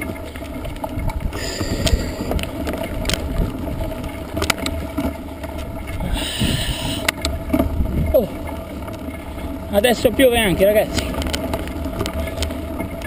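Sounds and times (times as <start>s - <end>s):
bike frame rattling: 0.0s - 13.0s
bike tyres rolling over stones: 0.0s - 13.0s
wind buffeting microphone: 0.0s - 13.0s.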